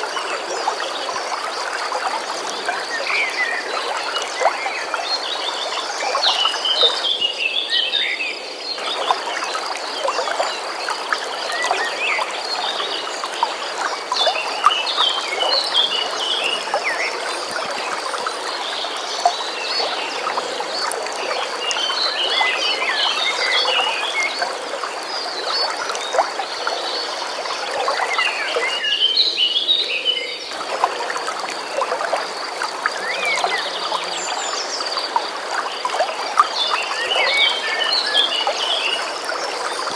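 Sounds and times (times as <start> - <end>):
songbirds chirping: 0.0 - 39.9
stream flowing water: 0.0 - 39.9.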